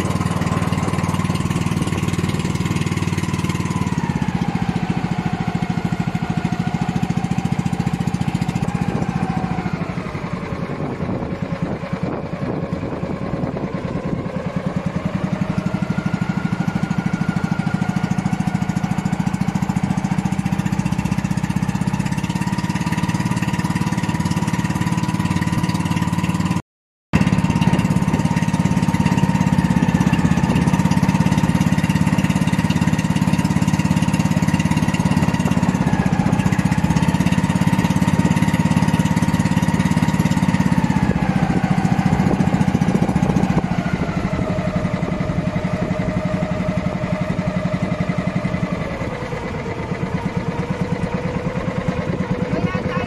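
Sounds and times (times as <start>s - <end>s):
small boat engine running: 0.0s - 53.0s.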